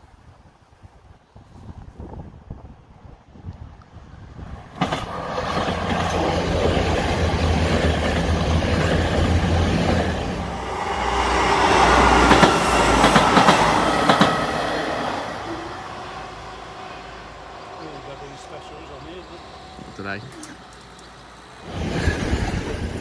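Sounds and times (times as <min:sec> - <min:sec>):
diesel train passing: 0:03.8 - 0:23.0.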